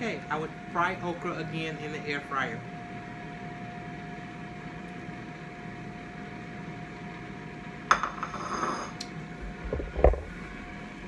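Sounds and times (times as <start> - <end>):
air fryer fan whirring: 0.0 - 11.0.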